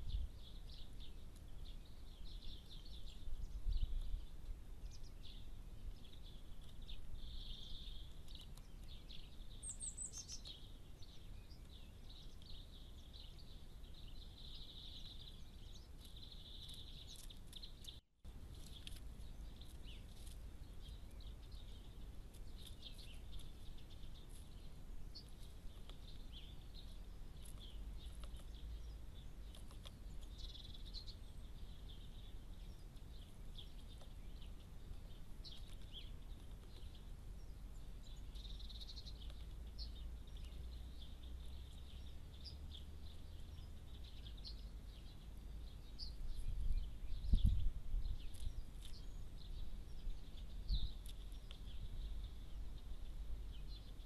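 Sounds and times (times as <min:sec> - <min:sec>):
birds singing and twittering: 0:00.0 - 0:54.0.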